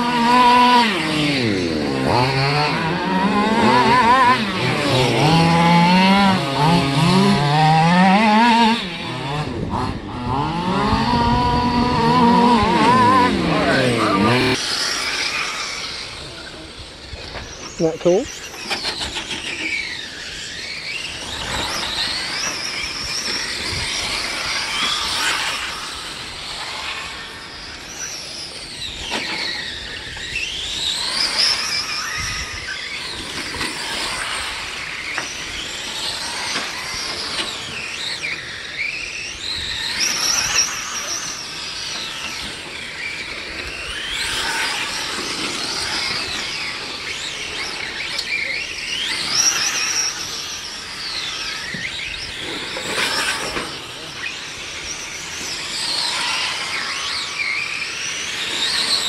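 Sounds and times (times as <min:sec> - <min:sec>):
rc car motors whining: 0:00.0 - 0:59.0.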